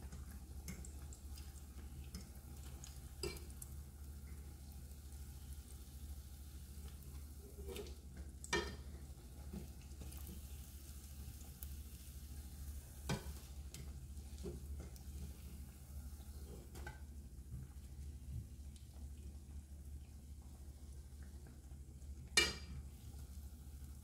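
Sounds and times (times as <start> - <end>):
patties sizzling in oil: 0.0 - 24.0.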